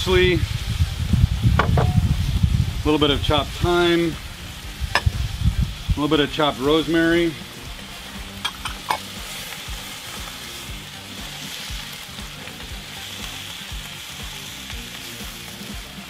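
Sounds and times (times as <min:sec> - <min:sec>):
vegetables sizzling in a skillet: 0:00.0 - 0:16.0.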